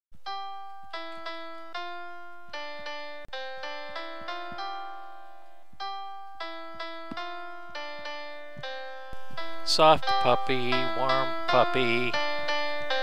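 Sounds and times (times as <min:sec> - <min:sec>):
electric piano melody: 0:00.2 - 0:13.0.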